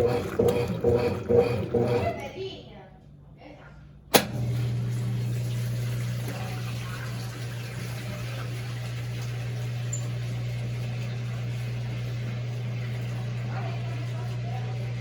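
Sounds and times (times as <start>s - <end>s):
washing machine drain pump humming: 0.0s - 2.6s, 4.1s - 15.0s.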